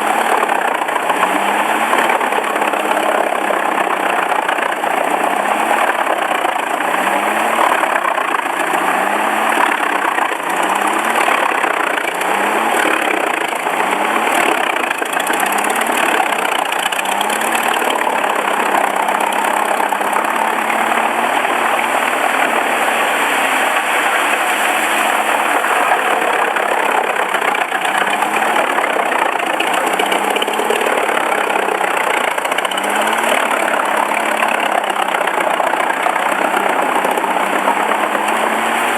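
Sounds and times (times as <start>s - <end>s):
wood-processing machine running: 0.0s - 38.9s.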